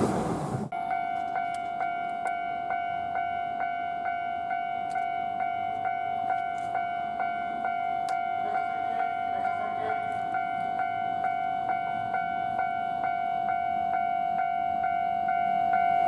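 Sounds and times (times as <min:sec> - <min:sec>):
level crossing warning bell ringing: 0:00.7 - 0:16.0.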